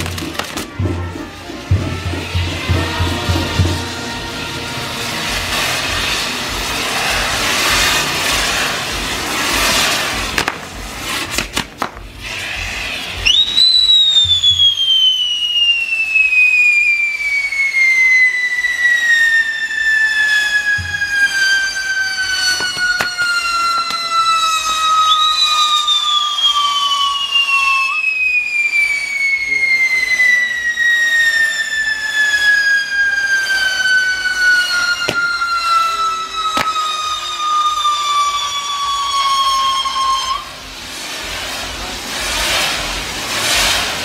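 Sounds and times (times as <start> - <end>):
firework cracks: 0.0 - 44.0
fireworks hissing: 0.0 - 44.0
shrill firework whistle: 0.0 - 44.0.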